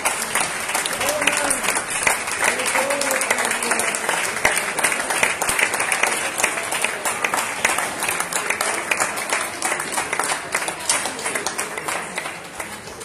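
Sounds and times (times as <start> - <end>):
spectators clapping: 0.0 - 13.0.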